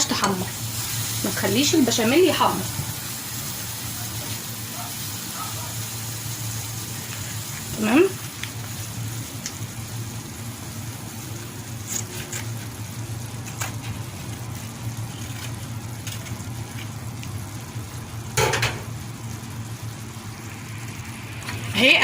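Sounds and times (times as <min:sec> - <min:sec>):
roux sizzling in a pot: 0:00.0 - 0:22.0.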